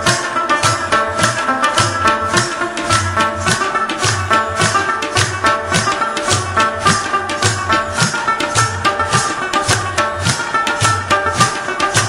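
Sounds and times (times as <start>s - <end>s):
drum beat: 0.0s - 12.0s
instrumental melody: 0.0s - 12.0s.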